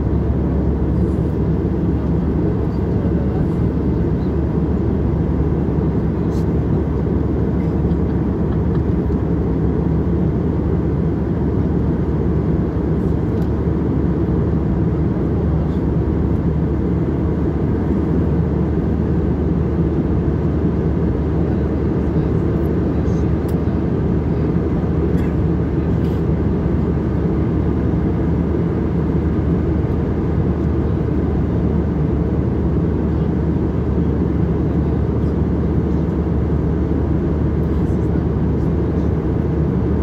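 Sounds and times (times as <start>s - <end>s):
airliner cabin engine roar: 0.0s - 40.0s.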